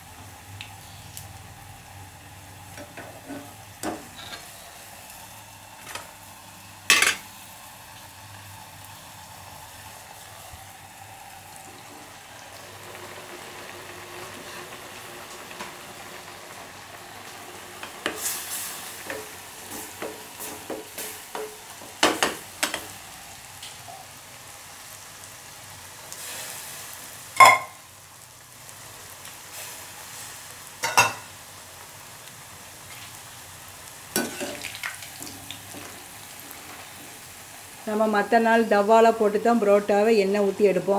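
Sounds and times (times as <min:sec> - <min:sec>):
bread sizzling in hot oil: 0:00.0 - 0:40.9.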